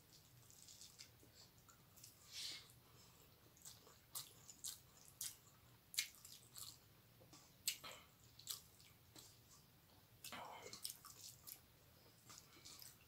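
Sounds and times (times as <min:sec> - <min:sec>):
wet chewing and mouth clicks: 0:00.0 - 0:02.3, 0:02.9 - 0:13.0.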